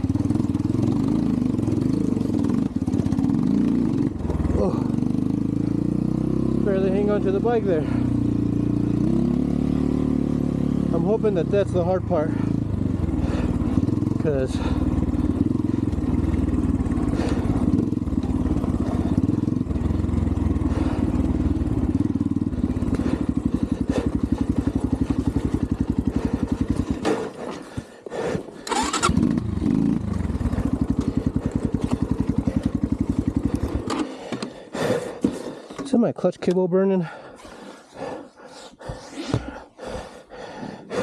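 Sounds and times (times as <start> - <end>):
dirt bike engine idling: 0.0 - 41.0.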